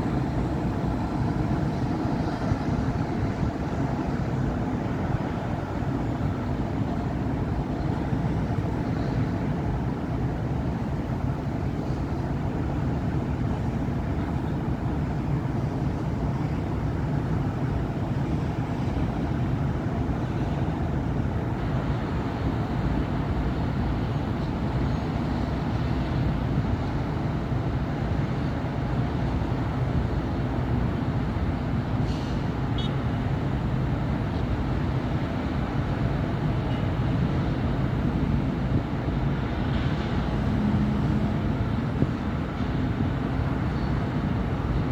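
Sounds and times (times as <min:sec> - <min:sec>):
city traffic roar: 0:00.0 - 0:44.9.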